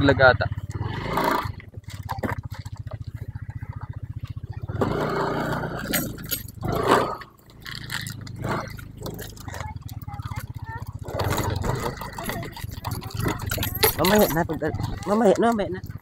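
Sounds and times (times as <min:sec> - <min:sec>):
low pulsing hum: 0:00.4 - 0:16.0.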